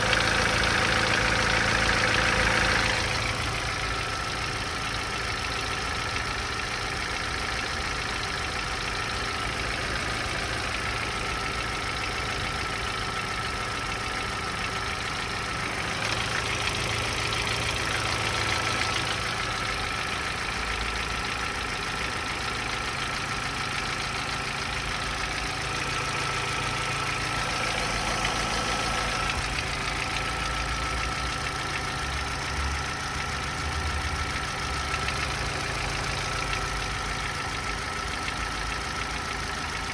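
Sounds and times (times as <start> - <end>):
car engine idling with knock: 0.0 - 39.9.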